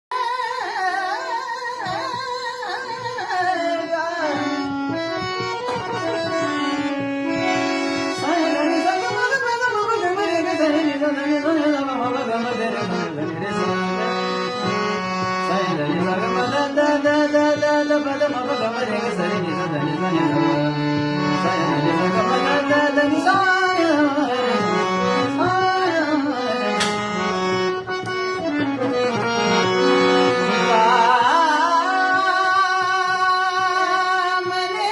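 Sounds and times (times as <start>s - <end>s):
harmonium: 0.1s - 34.9s
man singing devotional song: 0.1s - 34.9s.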